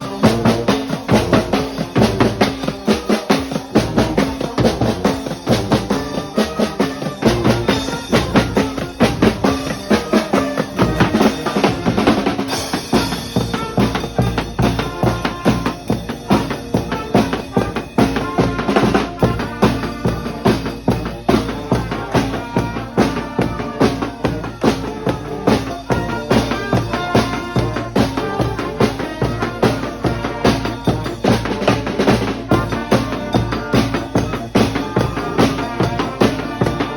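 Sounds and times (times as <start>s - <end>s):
bass drum and snare beat: 0.0s - 36.9s
brass street band playing: 0.0s - 36.9s.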